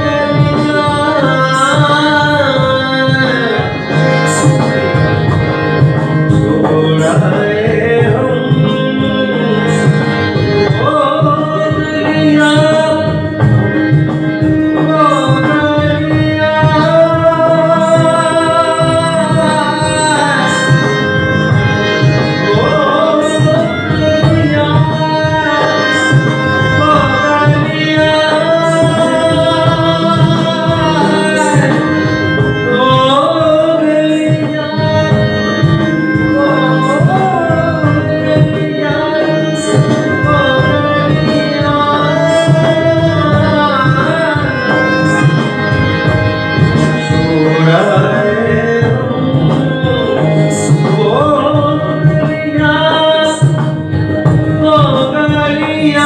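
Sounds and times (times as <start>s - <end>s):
harmonium: 0.0s - 56.0s
man singing: 0.0s - 56.0s.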